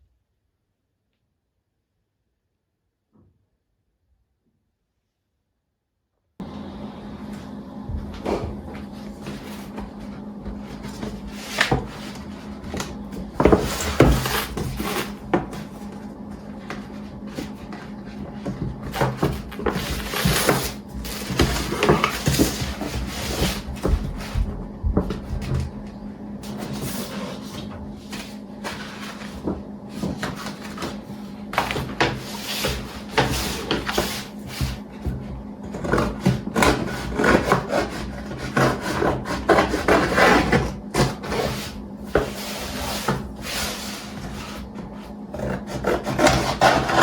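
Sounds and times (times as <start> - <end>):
steady low hum: 6.4 - 47.0.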